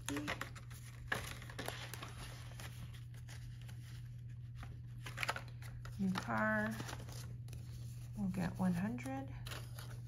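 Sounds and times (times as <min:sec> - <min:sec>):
paper banknotes rustling: 0:00.0 - 0:10.0.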